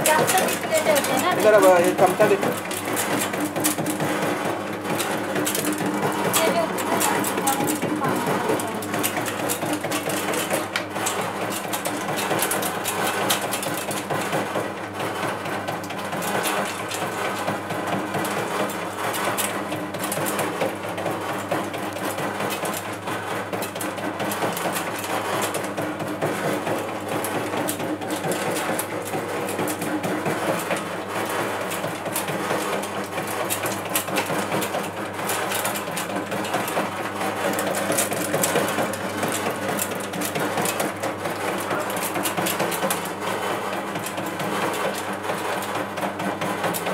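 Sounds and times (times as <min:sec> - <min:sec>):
fast mechanical clatter: 0:00.0 - 0:46.9.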